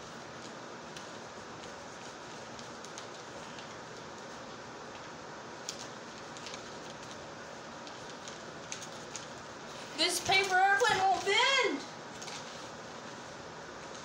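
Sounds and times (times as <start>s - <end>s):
paper crinkling: 0.1s - 14.0s.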